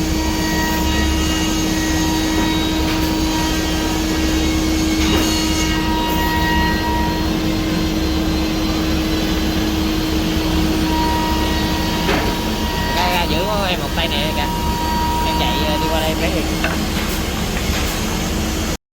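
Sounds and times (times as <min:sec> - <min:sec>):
router machining wood: 0:00.0 - 0:17.8.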